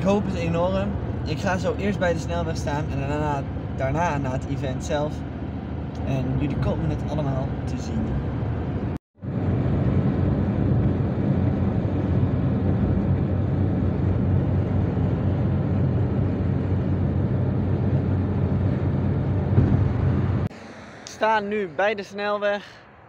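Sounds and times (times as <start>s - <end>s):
car cabin road noise: 0.0s - 22.8s.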